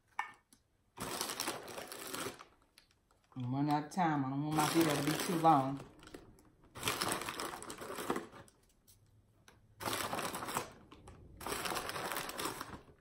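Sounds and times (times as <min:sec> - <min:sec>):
plastic wrapper crinkling: 0:01.0 - 0:08.8, 0:09.8 - 0:13.0.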